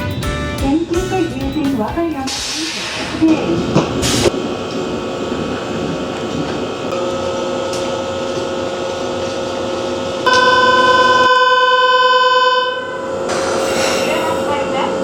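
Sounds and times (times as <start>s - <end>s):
railway background noise: 0.0s - 11.2s, 12.7s - 15.0s.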